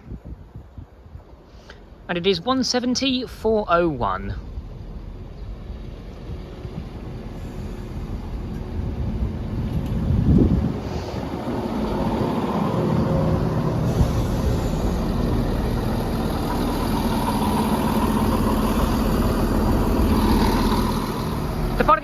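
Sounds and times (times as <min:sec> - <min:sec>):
diesel train engines running: 0:00.6 - 0:22.0.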